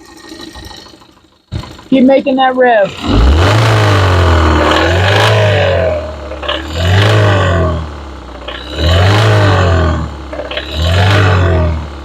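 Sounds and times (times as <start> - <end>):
deep engine rattle: 0.0 - 12.0
engine revving: 0.0 - 12.0.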